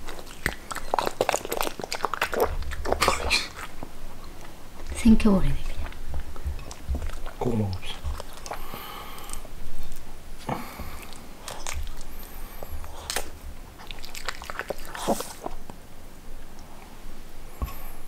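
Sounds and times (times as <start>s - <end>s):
dog chewing food: 0.0s - 16.6s.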